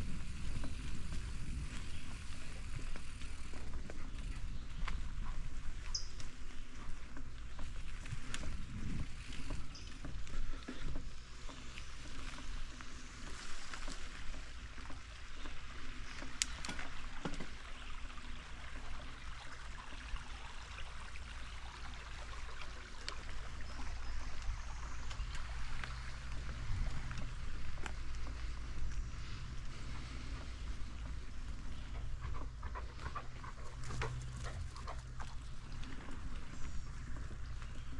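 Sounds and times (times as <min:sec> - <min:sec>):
wind rumbling on microphone: 0:00.0 - 0:16.6, 0:23.2 - 0:37.9
bicycle tyres rolling on dirt: 0:00.0 - 0:37.9.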